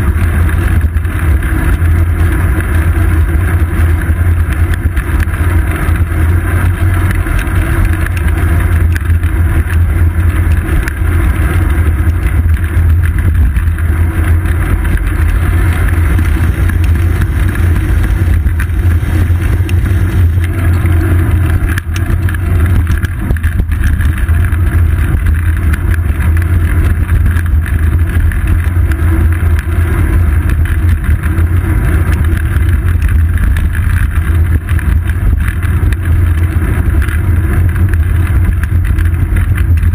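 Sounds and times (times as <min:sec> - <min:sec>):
bicycle rolling over asphalt: 0:00.0 - 0:39.9
wind rumble: 0:00.0 - 0:39.9.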